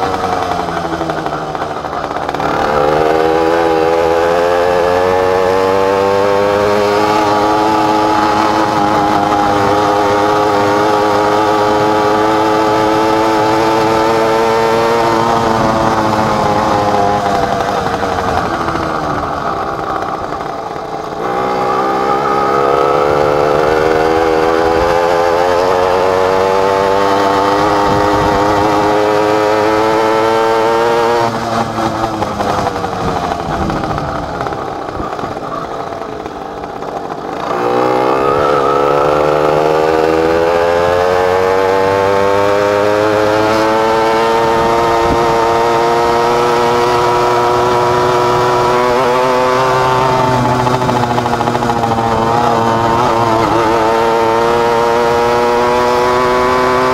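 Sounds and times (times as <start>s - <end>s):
minibike two-stroke engine revving: 0.0s - 56.9s.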